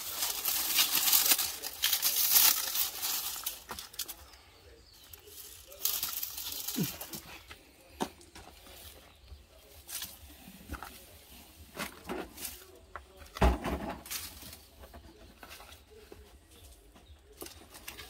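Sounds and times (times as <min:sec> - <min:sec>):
dry palm fronds rustling: 0:00.0 - 0:18.0.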